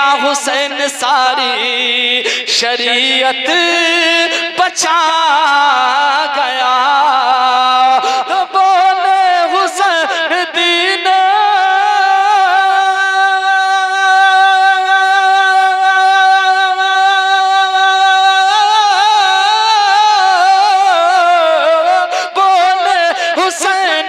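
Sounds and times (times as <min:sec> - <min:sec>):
man singing: 0:00.0 - 0:24.0.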